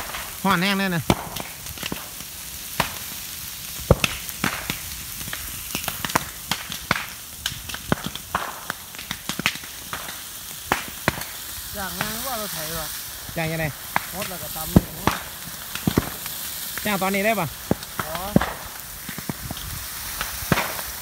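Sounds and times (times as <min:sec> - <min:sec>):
fire hissing: 0:00.0 - 0:21.0
grass fire crackling and popping: 0:00.0 - 0:21.0.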